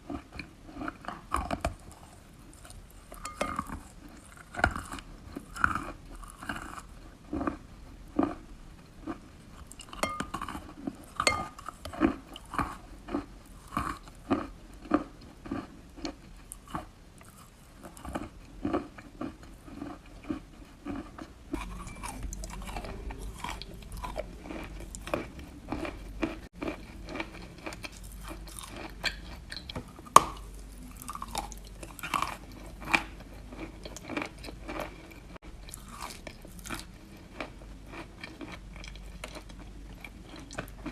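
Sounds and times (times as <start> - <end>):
chewing chalk: 0.0 - 7.6, 9.0 - 40.9
faint low hum: 0.0 - 40.9.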